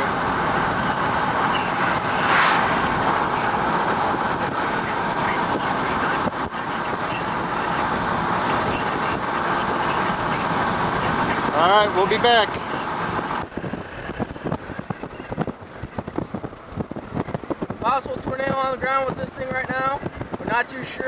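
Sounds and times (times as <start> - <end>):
vehicle road and engine noise: 0.0 - 21.0.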